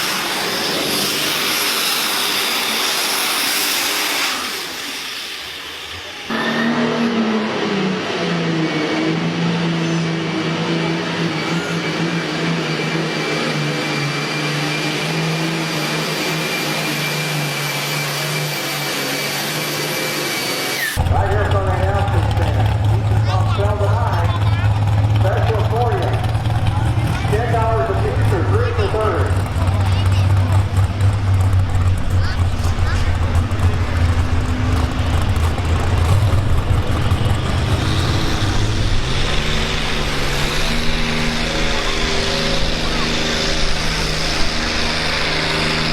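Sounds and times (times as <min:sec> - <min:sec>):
tractor engine at full throttle: 0:00.0 - 0:45.9.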